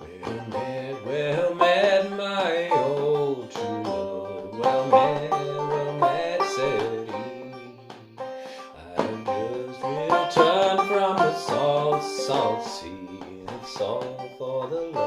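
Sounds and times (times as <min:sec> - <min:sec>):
banjo playing minor-key melody: 0:00.0 - 0:15.0
person singing: 0:00.0 - 0:15.0.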